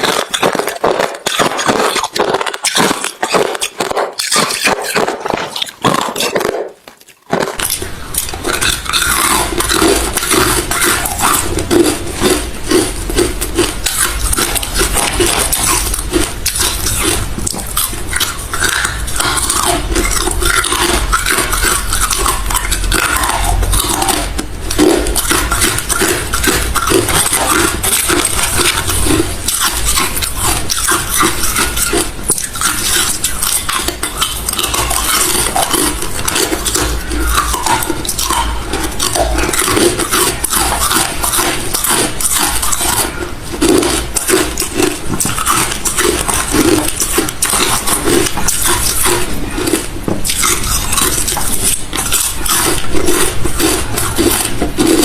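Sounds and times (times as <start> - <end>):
person chewing crushed ice: 0.0 - 55.0.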